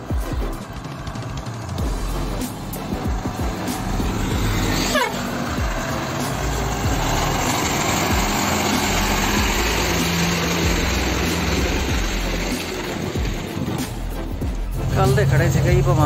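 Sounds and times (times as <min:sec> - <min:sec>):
truck diesel engine passing: 0:00.0 - 0:16.0.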